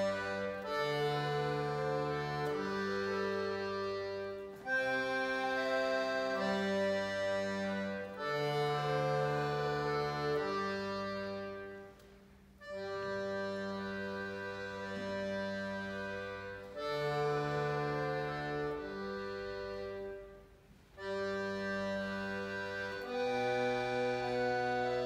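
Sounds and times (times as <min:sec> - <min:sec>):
accordion playing slow chords: 0:00.0 - 0:25.0.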